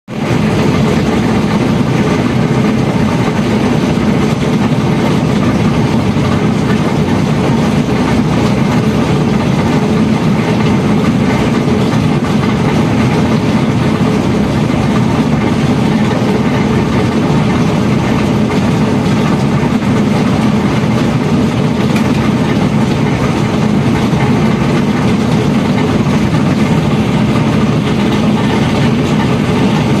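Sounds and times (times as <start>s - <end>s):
washing machine spinning: 0.1s - 30.0s.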